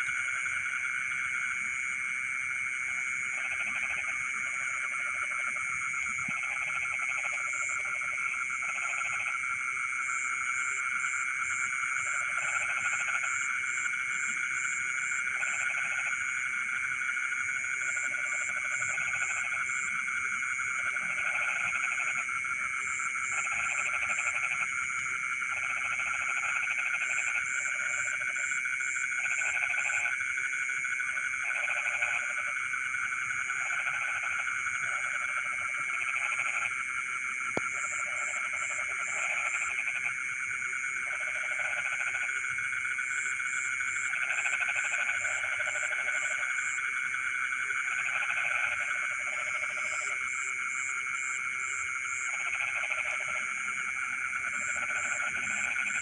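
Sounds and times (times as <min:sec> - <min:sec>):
high frog drone: 0:00.0 - 0:56.0
low pulsed frog calls: 0:00.0 - 0:56.0
quick ticking frog calls: 0:02.9 - 0:56.0.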